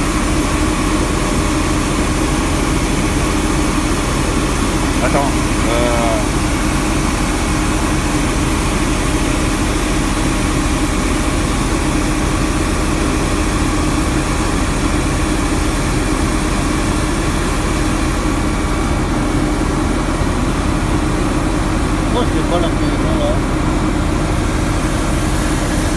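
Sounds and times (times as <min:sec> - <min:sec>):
street sweeper engine drone: 0:00.0 - 0:25.9.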